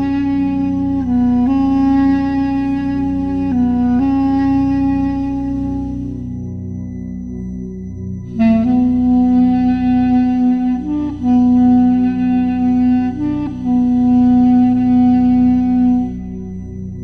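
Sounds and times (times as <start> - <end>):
steady drone: 0.0 - 17.0
wind instrument sustained notes: 0.0 - 17.0.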